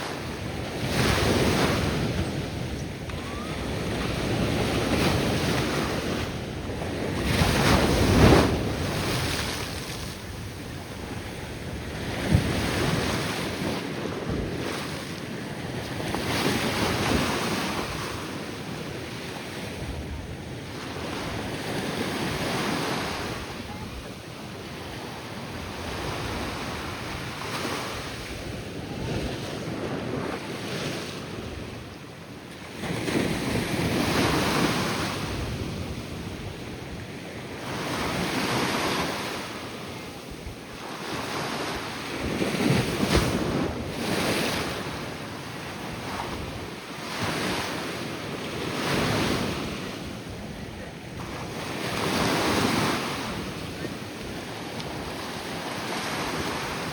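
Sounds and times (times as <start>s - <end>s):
wind buffeting microphone: 0.0s - 32.2s, 32.8s - 56.9s
ocean surf breaking on beach: 0.0s - 56.9s.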